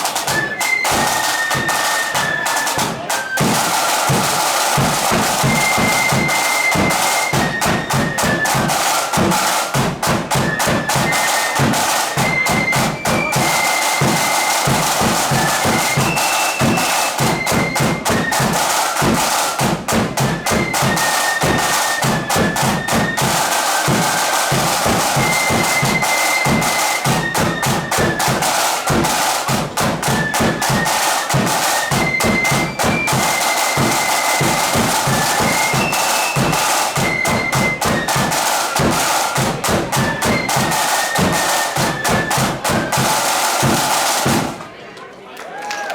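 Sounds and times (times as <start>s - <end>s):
flutes playing melody: 0.0s - 44.2s
snare drum rolls: 0.0s - 44.8s.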